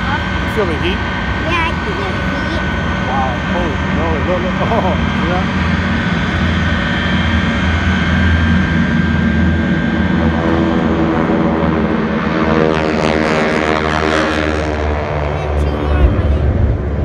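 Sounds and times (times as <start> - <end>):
jet engines roaring: 0.0 - 17.0
low-flying aircraft approaching: 0.0 - 17.0.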